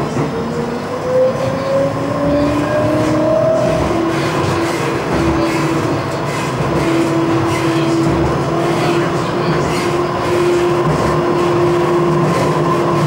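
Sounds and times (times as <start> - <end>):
tram motors whining: 0.0 - 13.0
wheels rumbling on track: 0.0 - 13.0.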